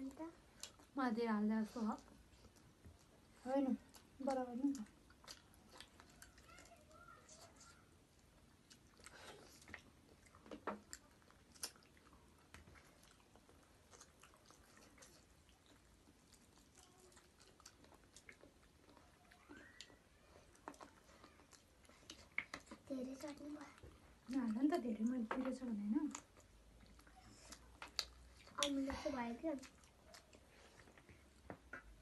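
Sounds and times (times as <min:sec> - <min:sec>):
quiet chewing: 0:00.0 - 0:32.0.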